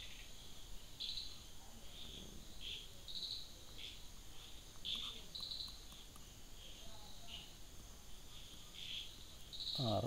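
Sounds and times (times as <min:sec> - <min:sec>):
insect chirping: 0:00.0 - 0:10.0.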